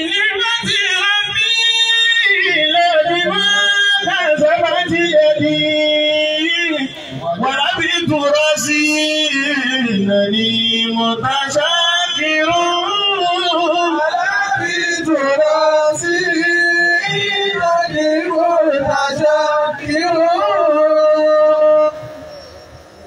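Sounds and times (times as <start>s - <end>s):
man singing a chant into microphone: 0.0s - 22.1s.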